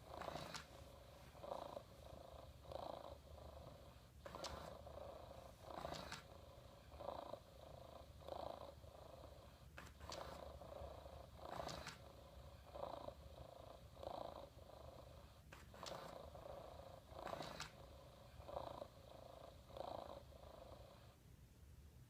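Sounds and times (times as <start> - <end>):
robot cat electronic purr: 0.0 - 21.2.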